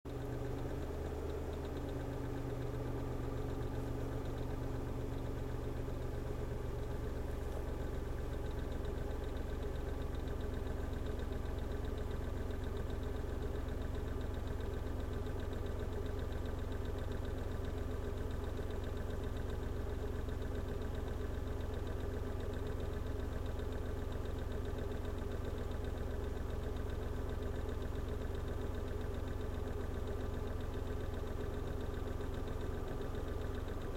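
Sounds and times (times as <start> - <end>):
engine idling: 0.1 - 33.9.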